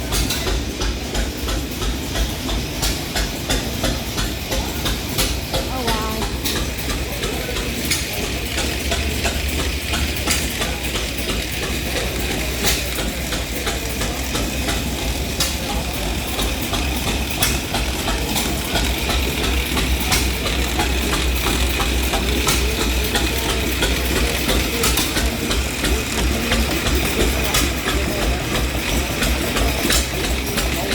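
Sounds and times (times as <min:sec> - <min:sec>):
small engines humming: 0:00.0 - 0:30.9.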